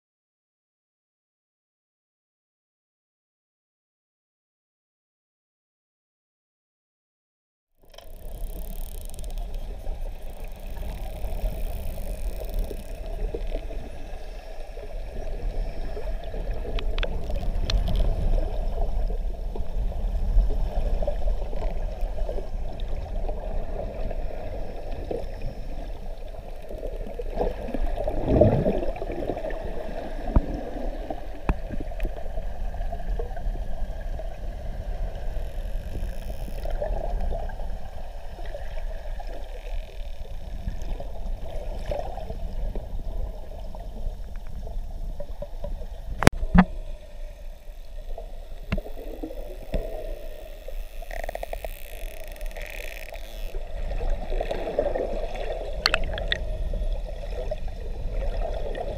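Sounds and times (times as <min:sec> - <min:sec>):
hum: 0:07.8 - 0:58.9
underwater rush of water: 0:08.3 - 0:58.9.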